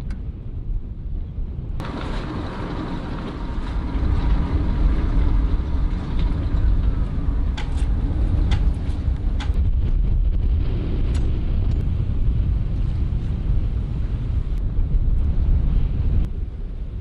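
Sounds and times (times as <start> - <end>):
electric anchor windlass running: 0.0 - 17.0.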